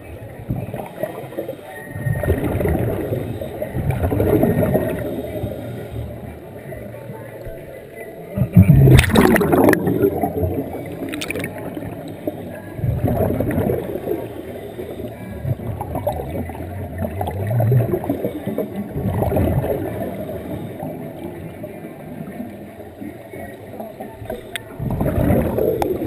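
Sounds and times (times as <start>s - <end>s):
underwater exhaust bubbles gurgling: 0.0s - 26.0s.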